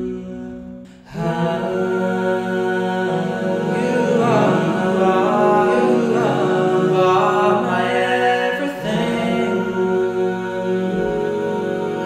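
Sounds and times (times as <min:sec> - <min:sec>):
a cappella male vocal harmonies: 0:00.0 - 0:12.0.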